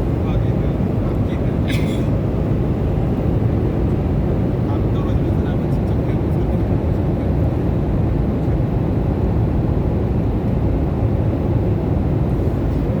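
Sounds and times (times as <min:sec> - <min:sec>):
airliner engines rumbling in cabin: 0:00.0 - 0:13.0.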